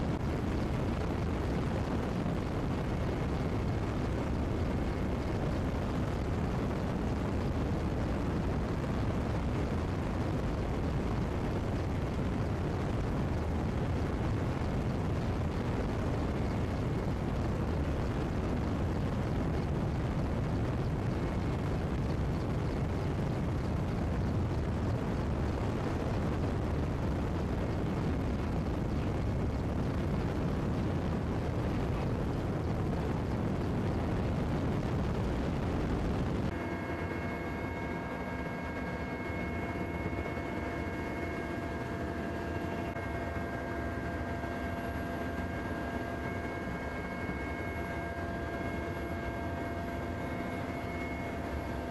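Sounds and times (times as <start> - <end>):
helicopter engines and rotor: 0.0 - 51.9.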